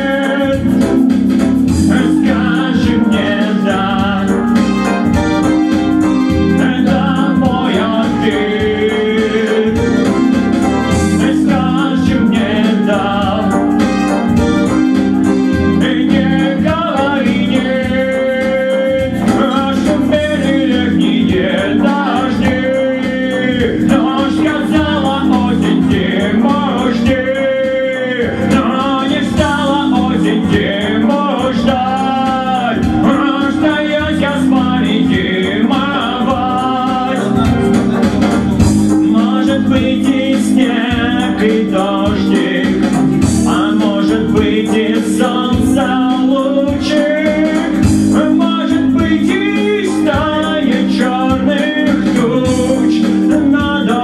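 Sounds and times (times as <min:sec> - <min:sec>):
man and woman singing pop duet: 0:00.0 - 0:04.7, 0:06.4 - 0:10.2, 0:11.0 - 0:14.0, 0:15.7 - 0:38.0, 0:39.0 - 0:54.0
karaoke backing track: 0:00.0 - 0:54.0.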